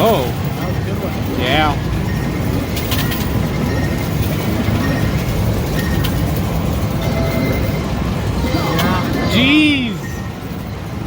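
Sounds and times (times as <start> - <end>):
rumble of arcade machines: 0.0 - 11.0.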